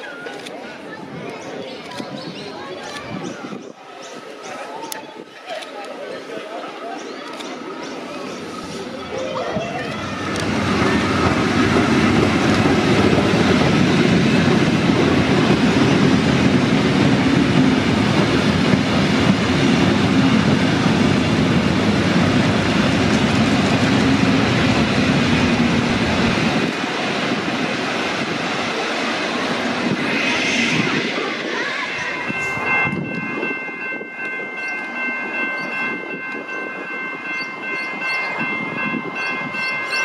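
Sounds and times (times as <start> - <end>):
train wheels rumbling on rails: 6.3 - 40.0.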